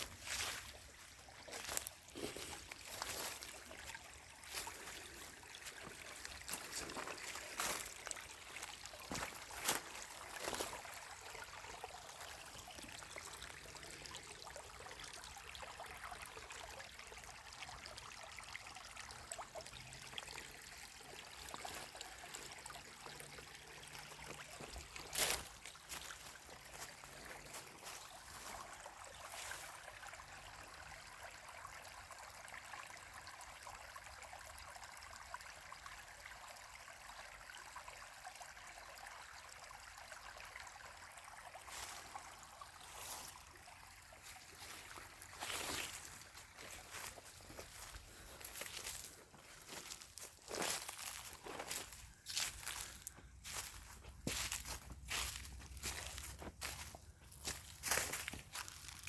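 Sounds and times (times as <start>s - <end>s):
stream water trickling: 0.0s - 59.0s.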